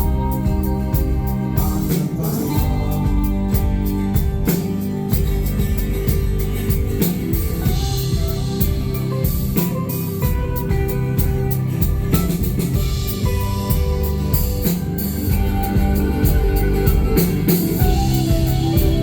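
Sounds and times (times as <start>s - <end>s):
drum kit steady beat: 0.0s - 19.0s
guitars: 0.0s - 19.0s.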